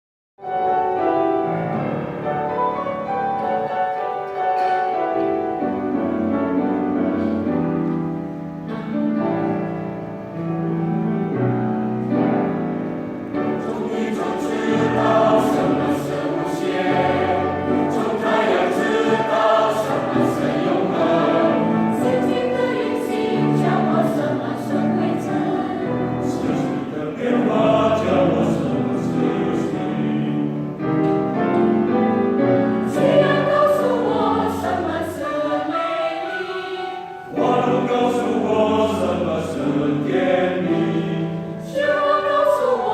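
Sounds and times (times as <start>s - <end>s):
choir singing: 0.4s - 42.9s
piano accompaniment: 0.4s - 42.9s.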